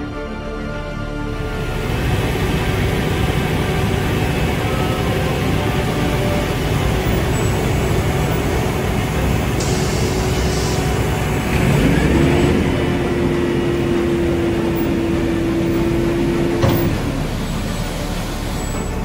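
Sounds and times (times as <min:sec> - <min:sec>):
engine whine: 0:01.0 - 0:19.0
diesel engines running under load: 0:01.1 - 0:19.0.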